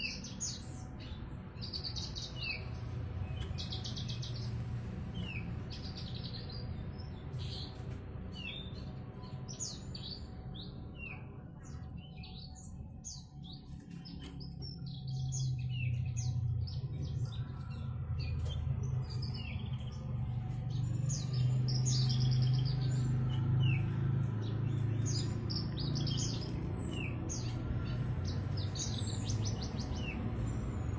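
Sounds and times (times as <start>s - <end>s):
bird singing chirps and trills: 0.0s - 30.9s.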